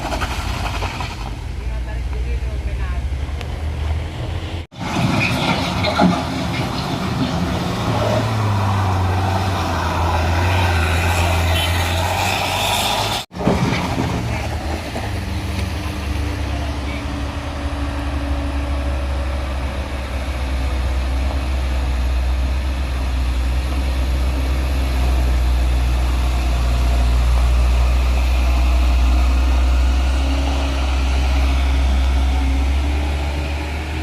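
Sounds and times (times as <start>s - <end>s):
heavy truck engine rumbling: 0.0s - 34.0s.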